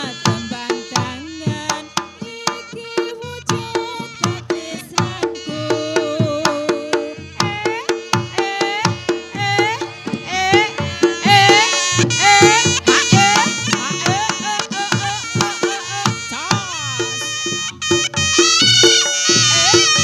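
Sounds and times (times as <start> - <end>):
folk ensemble music: 0.0 - 20.0
hand drums beating: 0.0 - 20.0.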